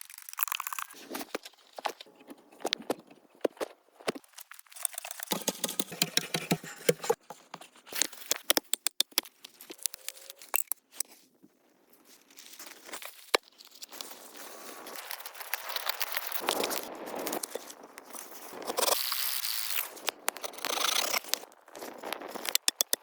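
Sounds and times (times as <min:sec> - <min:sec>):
rustling and crackling with snaps: 0:00.0 - 0:23.0.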